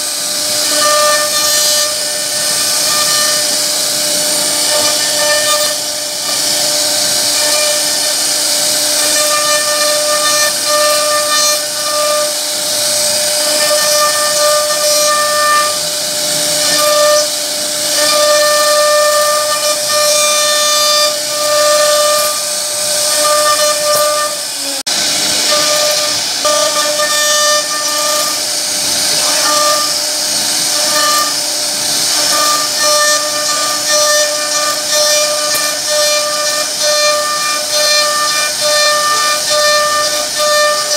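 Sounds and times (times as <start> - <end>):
bit cutting wood: 0.0 - 40.9
router spindle whine: 0.0 - 40.9.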